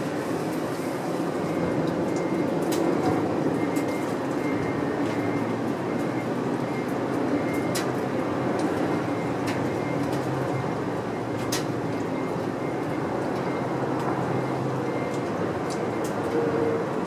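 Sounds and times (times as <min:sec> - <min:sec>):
mechanical hum and rumble: 0:00.0 - 0:17.0.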